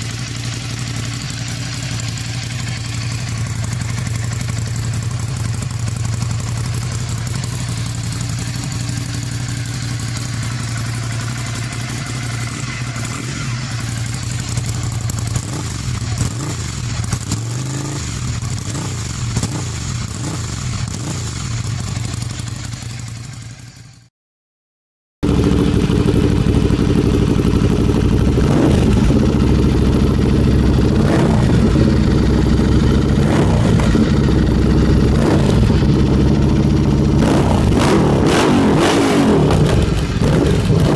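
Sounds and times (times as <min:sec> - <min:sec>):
motorcycle engine running: 0:00.0 - 0:24.1, 0:25.2 - 0:40.9.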